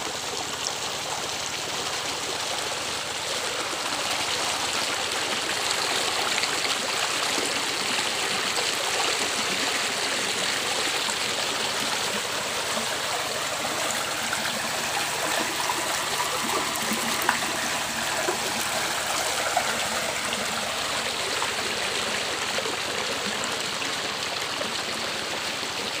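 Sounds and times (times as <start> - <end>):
stream rushing over rocks: 0.0 - 26.0
water splashes: 0.0 - 26.0.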